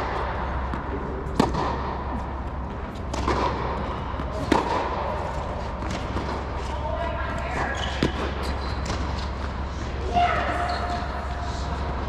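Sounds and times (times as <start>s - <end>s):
racket hitting tennis ball: 0.0s - 10.0s.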